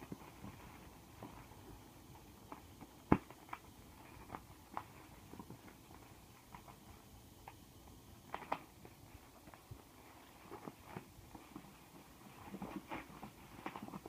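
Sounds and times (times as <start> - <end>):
plastic clicking and crinkling: 0.0 - 7.6, 8.2 - 14.0.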